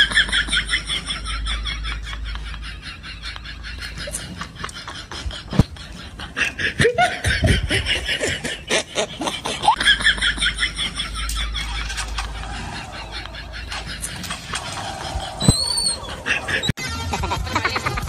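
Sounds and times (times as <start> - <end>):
person laughing: 0.0 - 18.0.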